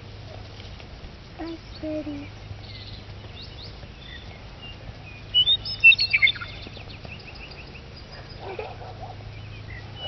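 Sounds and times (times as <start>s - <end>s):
songbird singing: 0.0s - 10.0s
other birds chirping: 1.4s - 10.0s.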